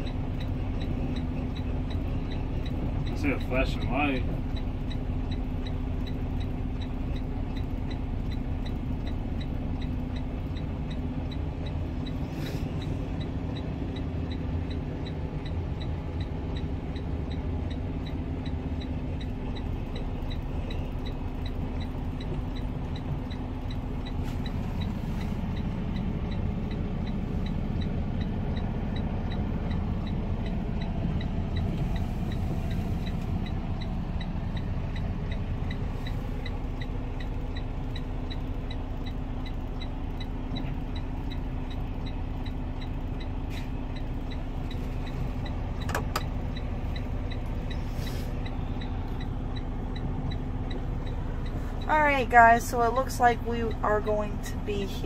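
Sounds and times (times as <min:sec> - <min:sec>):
diesel engine idling: 0:00.0 - 0:55.0
faint regular ticking: 0:00.0 - 0:55.0.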